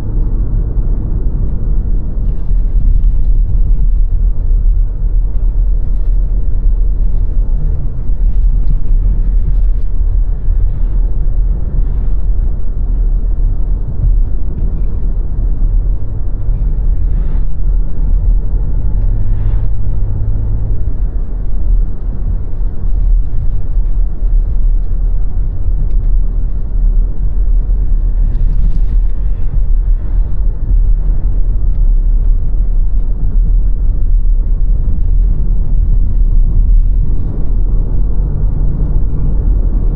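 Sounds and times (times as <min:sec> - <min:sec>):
faint engine hum: 0:00.0 - 0:39.9
tyre and engine rumble: 0:00.0 - 0:39.9.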